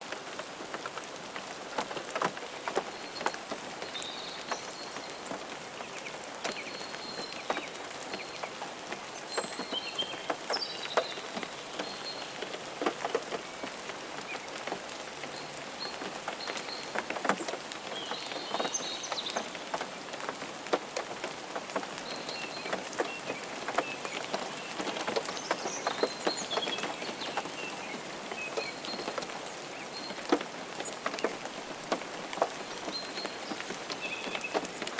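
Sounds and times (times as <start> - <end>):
rain on car windshield: 0.0 - 34.9.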